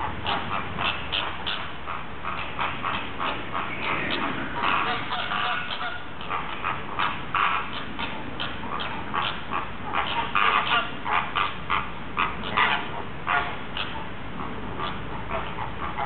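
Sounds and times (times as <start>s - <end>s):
flamingos honking: 0.0s - 16.0s.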